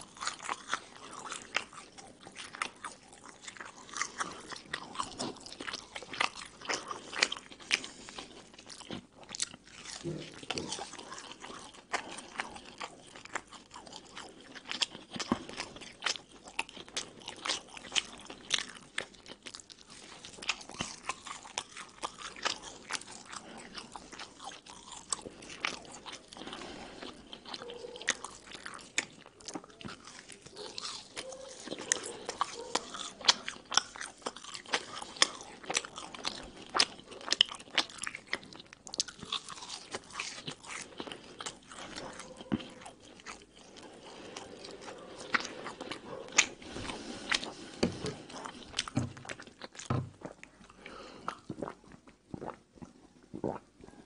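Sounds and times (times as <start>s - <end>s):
crunchy chewing and biting: 0.0s - 54.0s.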